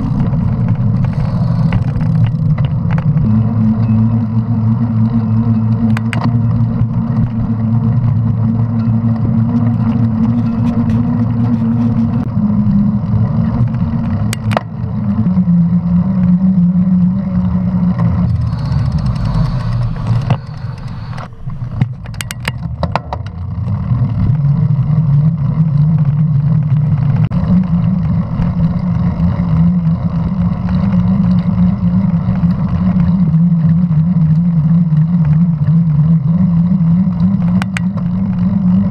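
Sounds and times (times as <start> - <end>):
bike tyres humming on pavement: 0.0 - 38.9.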